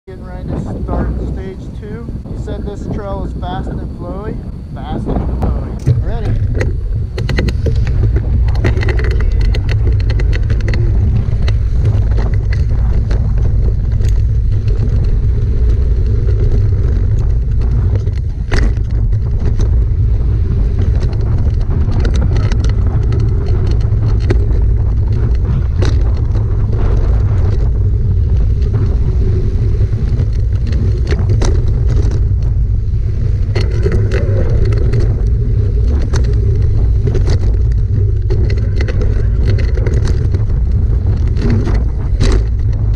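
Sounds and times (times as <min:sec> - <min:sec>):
wind buffeting microphone: 0:00.0 - 0:42.9
bike clicks and rattles: 0:02.4 - 0:42.9
tyres on dirt: 0:05.0 - 0:42.9.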